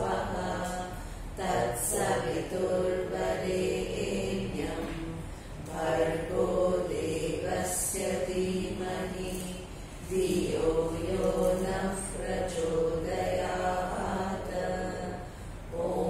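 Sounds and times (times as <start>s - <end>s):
woman chanting a prayer: 0.0s - 16.0s.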